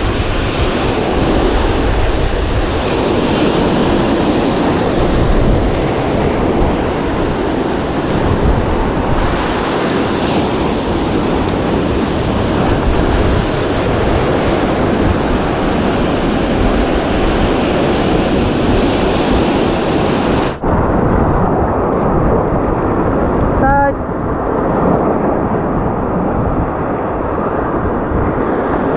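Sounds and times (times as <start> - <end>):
surf breaking on rocky shore: 0.0 - 28.9
wind buffeting microphone: 0.0 - 28.9.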